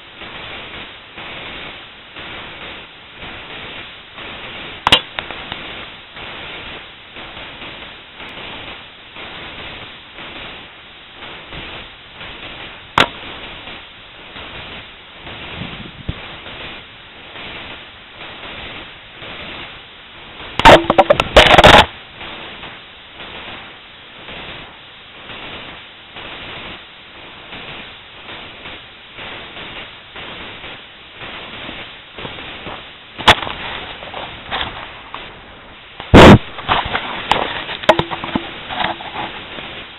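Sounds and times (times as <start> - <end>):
steady pulsing hiss: 0.0 - 39.9.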